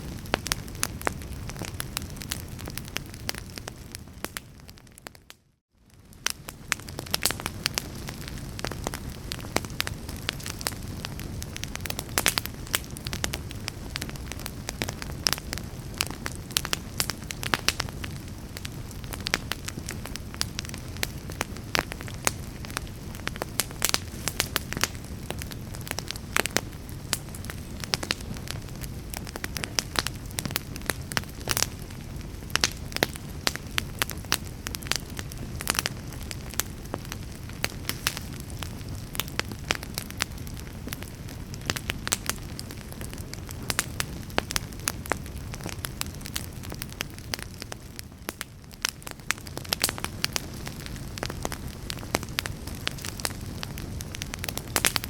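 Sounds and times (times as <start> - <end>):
fire crackling: 0.0 - 55.0
low rumble of flames: 0.0 - 55.0
sharp pops of fire: 6.0 - 55.0.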